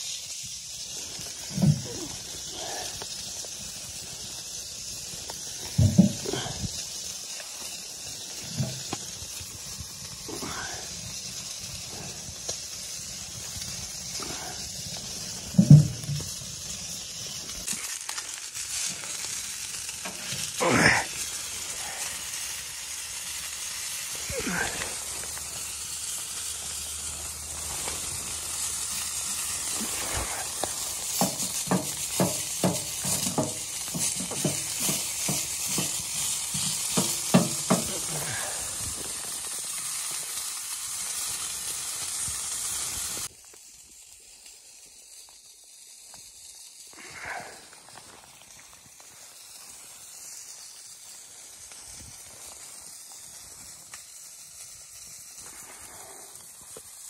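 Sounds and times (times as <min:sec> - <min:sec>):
chicken sizzling on grill: 0:00.0 - 0:57.0.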